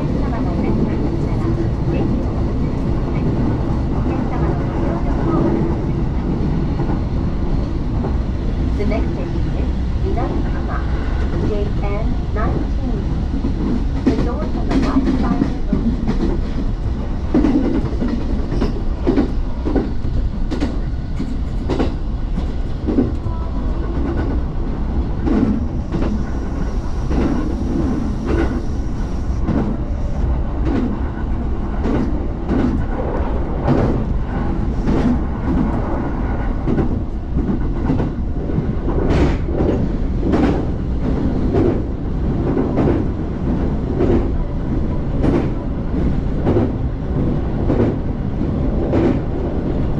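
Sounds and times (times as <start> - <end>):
train rumbling on rails: 0.0 - 49.9.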